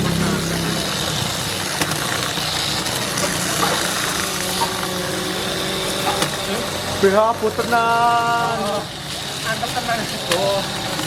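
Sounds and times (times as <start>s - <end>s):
toy car motors whirring: 0.0s - 11.0s.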